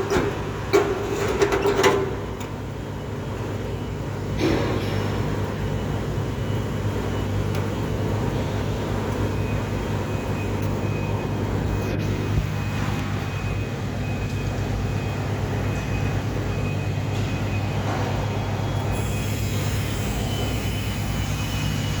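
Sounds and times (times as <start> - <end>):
machine humming: 2.7 - 22.0.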